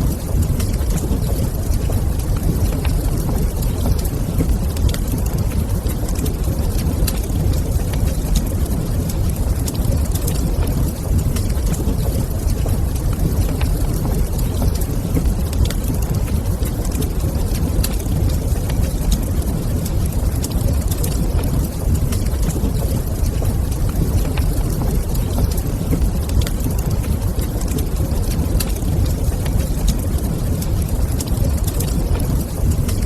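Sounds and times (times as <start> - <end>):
fire burning in a fireplace: 0.0 - 33.0
fire crackles: 0.0 - 33.0.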